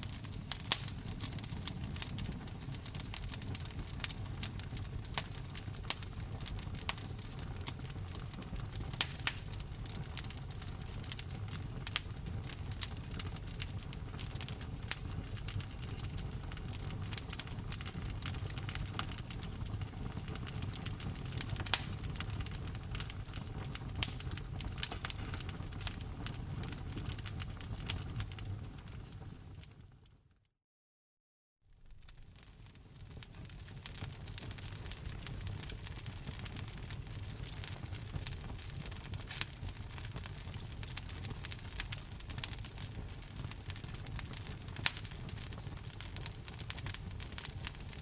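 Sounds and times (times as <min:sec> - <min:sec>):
wood fire crackling: 0:00.0 - 0:30.0, 0:31.7 - 0:48.0.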